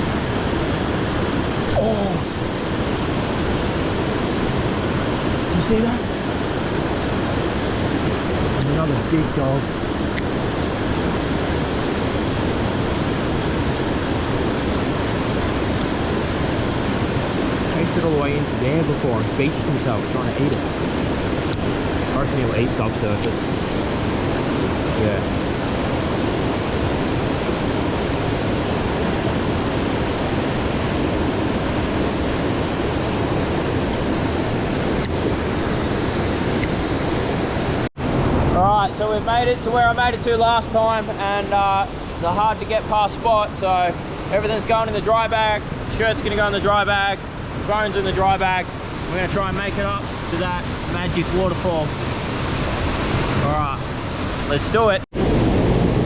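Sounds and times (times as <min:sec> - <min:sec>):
creek water rushing: 0:00.0 - 0:55.0.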